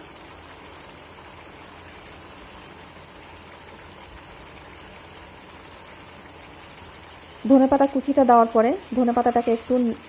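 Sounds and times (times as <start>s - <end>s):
curry sizzling gently: 0.0s - 10.0s.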